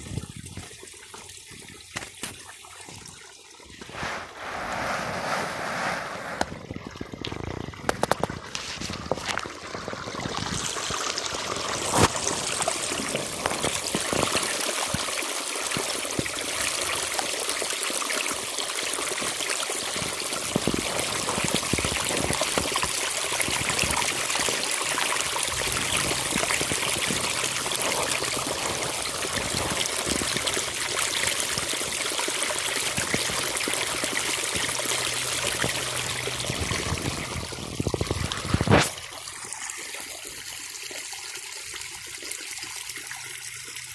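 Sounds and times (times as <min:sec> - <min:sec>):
water trickling along furrow: 0:00.0 - 0:04.8, 0:06.3 - 0:43.9.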